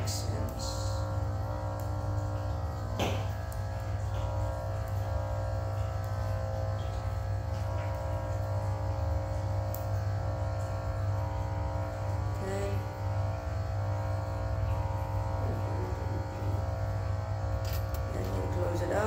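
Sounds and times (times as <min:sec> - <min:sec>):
droning background music: 0:00.0 - 0:19.0.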